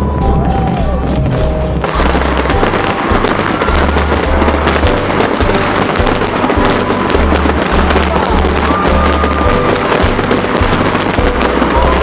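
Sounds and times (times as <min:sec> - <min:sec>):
fireworks crackling and banging: 0:00.0 - 0:12.0
music with heavy bass beat: 0:00.0 - 0:12.0.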